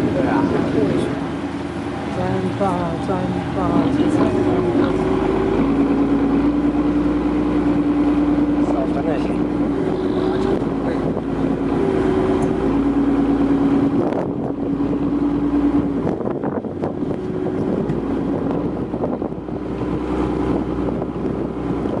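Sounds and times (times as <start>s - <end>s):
boat engines droning: 0.0s - 22.0s
wind buffeting microphone: 0.0s - 22.0s.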